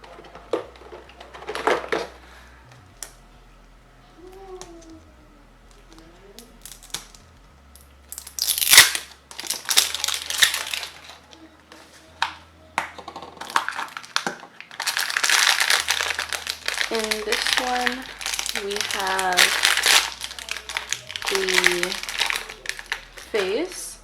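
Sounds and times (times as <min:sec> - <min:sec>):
toy packaging crinkling: 0:00.0 - 0:03.2, 0:05.7 - 0:07.2, 0:07.8 - 0:24.0.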